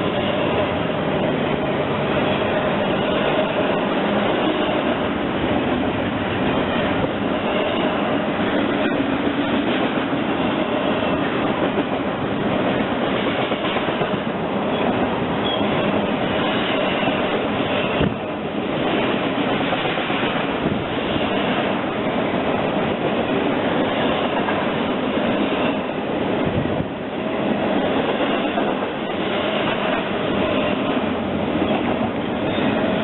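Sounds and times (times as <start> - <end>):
train wheels rolling on rail: 0.0 - 33.0.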